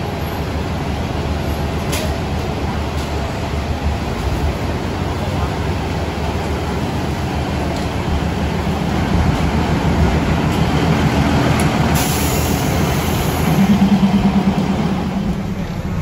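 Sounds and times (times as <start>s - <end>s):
diesel train engine idling: 0.0s - 16.0s.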